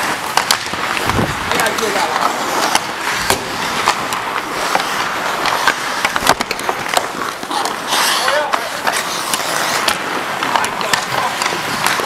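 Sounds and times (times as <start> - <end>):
hockey sticks and puck clacking: 0.0 - 12.0
skates scraping on ice: 0.0 - 12.0.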